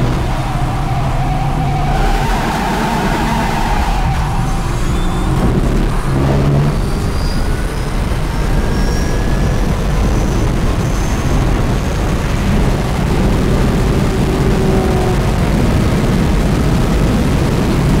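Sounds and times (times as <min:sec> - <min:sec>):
wind and tyre noise: 0:00.0 - 0:18.0.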